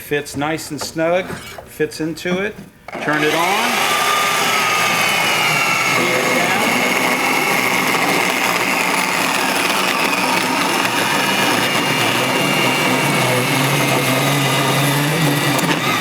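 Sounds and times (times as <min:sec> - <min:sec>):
band saw cutting pipe: 0:00.0 - 0:01.8, 0:02.9 - 0:16.0.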